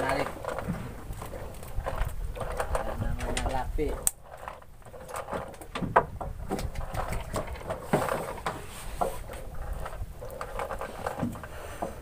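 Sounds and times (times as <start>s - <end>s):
fishing reel and rod handling: 0.0s - 12.0s.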